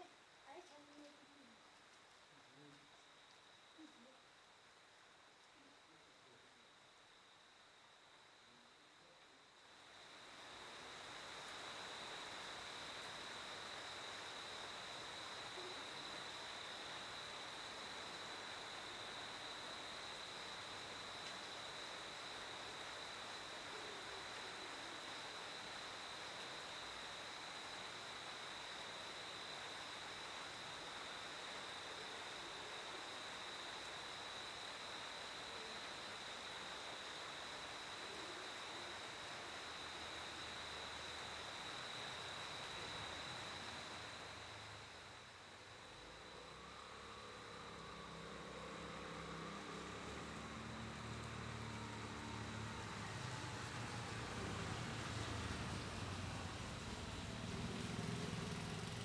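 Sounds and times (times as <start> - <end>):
faint hiss: 0.0 - 59.0
cricket trilling: 9.6 - 59.0.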